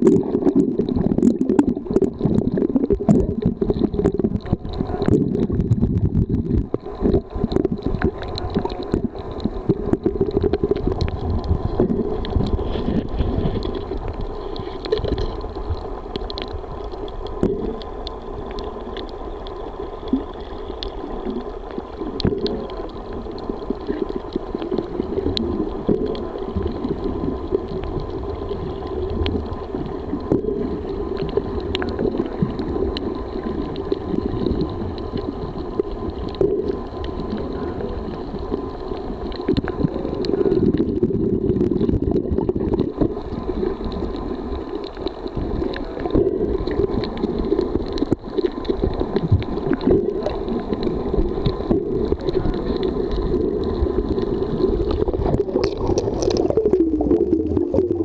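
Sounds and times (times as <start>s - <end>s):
underwater rumble: 0.0s - 58.0s
faint clicks: 3.1s - 57.9s.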